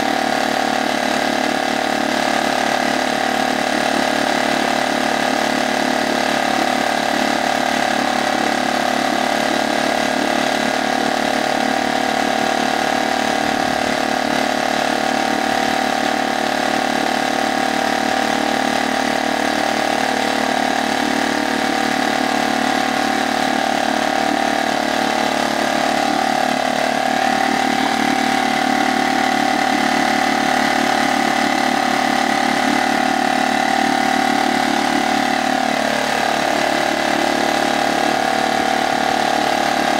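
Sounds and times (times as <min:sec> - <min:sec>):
outboard motor idling: 0:00.0 - 0:39.9.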